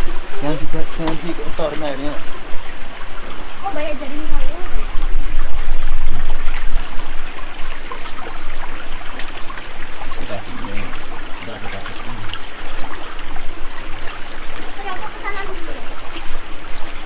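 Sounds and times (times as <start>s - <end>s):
creek water trickling over rocks: 0.0s - 17.0s.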